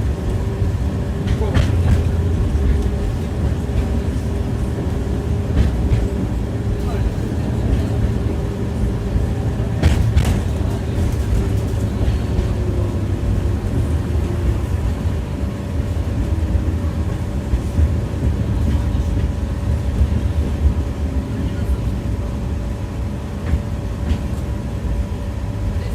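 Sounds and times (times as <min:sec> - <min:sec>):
tram rumbling on rails: 0:00.0 - 0:25.9.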